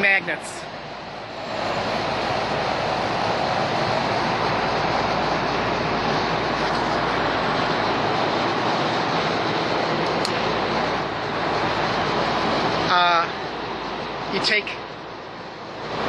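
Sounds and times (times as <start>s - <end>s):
steady rushing drone: 0.0s - 16.0s.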